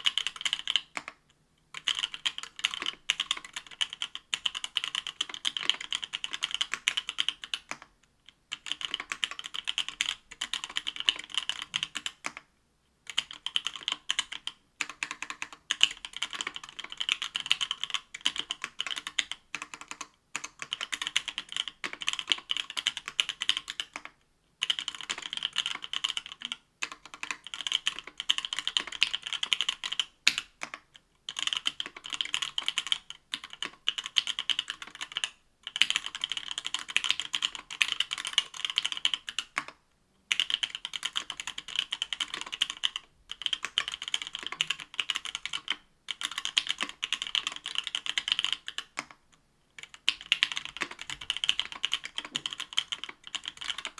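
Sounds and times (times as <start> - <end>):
mechanical keyboard typing: 0.0 - 7.9, 8.5 - 12.4, 13.1 - 49.2, 49.8 - 53.9.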